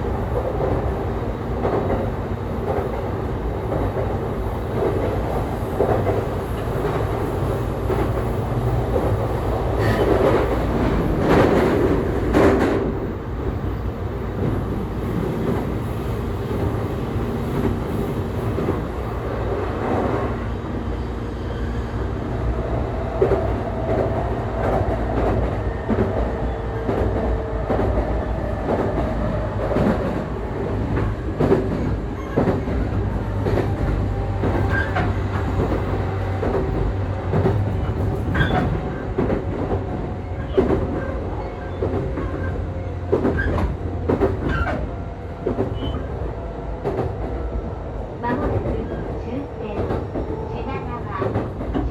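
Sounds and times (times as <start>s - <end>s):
train rumble of motors and wheels: 0.0s - 51.9s.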